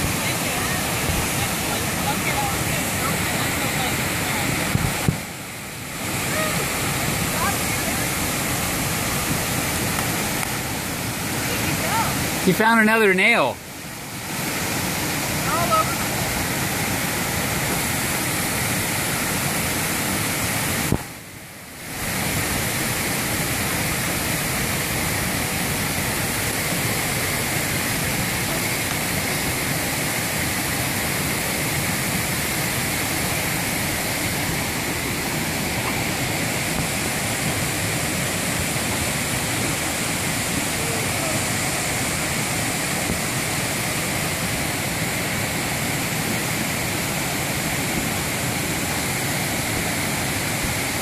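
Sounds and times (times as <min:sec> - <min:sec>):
whitewater rushing: 0:00.0 - 0:51.0.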